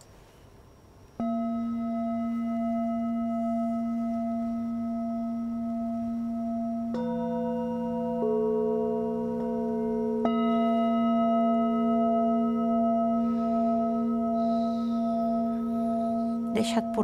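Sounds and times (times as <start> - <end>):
larger bowl low tones: 1.2 - 17.0
singing bowl ringing: 1.2 - 17.0.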